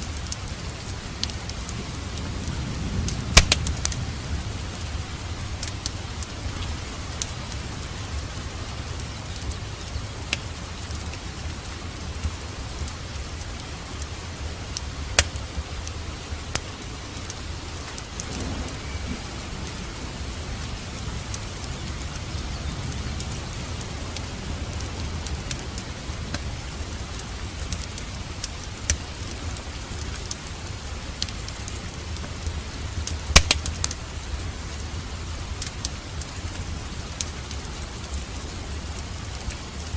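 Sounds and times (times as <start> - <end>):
fire crackling and popping: 0.0 - 7.7, 8.3 - 20.4, 21.2 - 39.9
steady rain hiss: 0.0 - 39.9.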